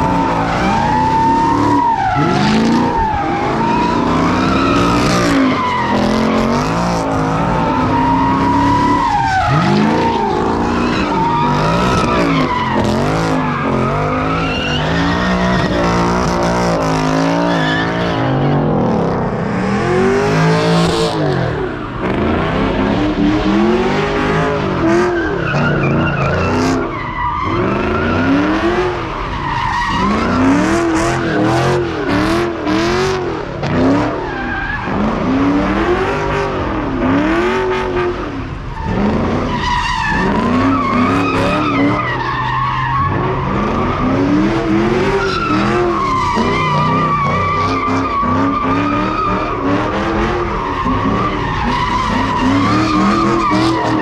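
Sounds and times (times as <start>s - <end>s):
car engines revving: 0.0s - 54.0s
tires squealing: 0.0s - 54.0s.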